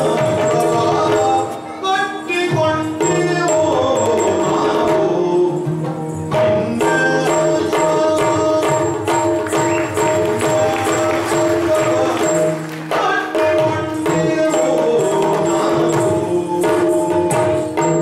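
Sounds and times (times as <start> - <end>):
person singing: 0.0 - 17.8
drums playing: 0.0 - 18.0.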